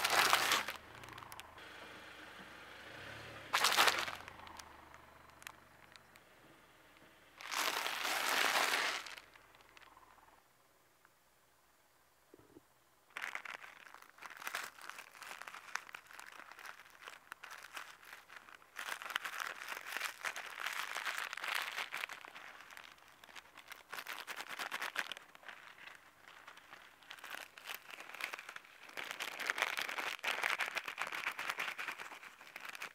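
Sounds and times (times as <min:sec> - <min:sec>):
cereal crumbs pattering on asphalt: 0:00.0 - 0:01.6, 0:03.5 - 0:06.2, 0:07.4 - 0:10.1, 0:13.1 - 0:32.9
plastic packets crinkling: 0:00.0 - 0:01.6, 0:03.5 - 0:06.2, 0:07.3 - 0:10.0, 0:13.1 - 0:32.9.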